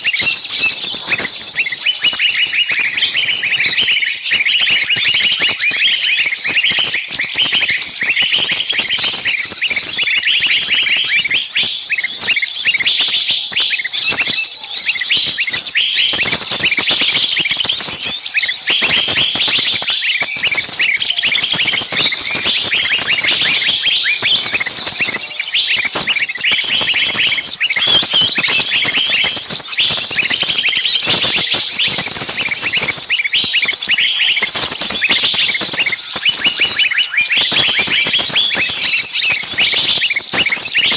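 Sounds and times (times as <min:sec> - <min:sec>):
songbirds chattering alarm calls: 0:00.0 - 0:40.9.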